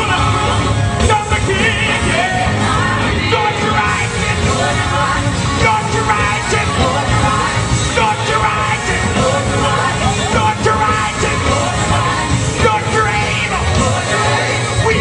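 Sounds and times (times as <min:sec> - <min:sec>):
gospel choir singing: 0:00.0 - 0:15.0
live band playing: 0:00.0 - 0:15.0.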